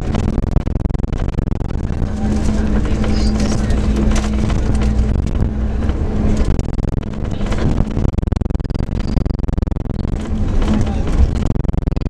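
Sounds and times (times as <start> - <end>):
road noise: 0.0 - 11.9
bus engine drone: 0.0 - 12.0.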